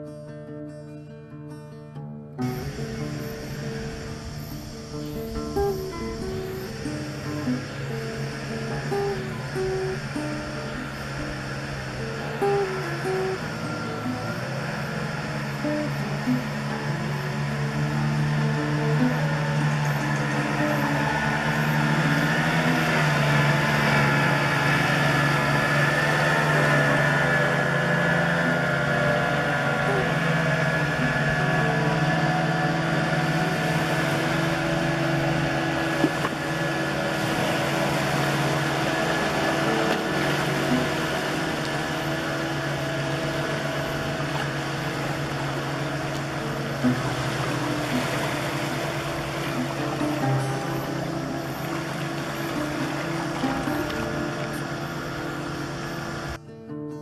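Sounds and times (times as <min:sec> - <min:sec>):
boat motor humming: 0:00.0 - 0:00.2, 0:02.2 - 0:56.5.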